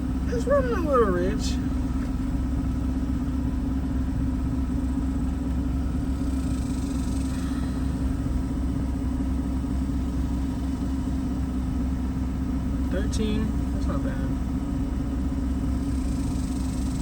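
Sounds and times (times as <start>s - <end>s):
rough car engine idling: 0.0s - 17.0s.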